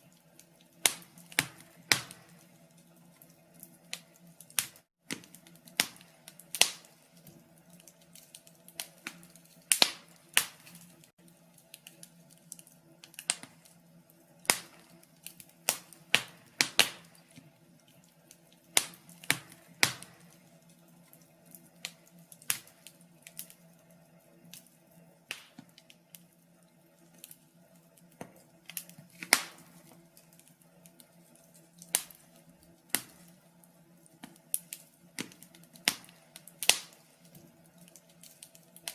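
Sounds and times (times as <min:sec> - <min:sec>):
faint steady hum: 0:00.0 - 0:38.9
wood fire crackling and popping: 0:00.0 - 0:38.9.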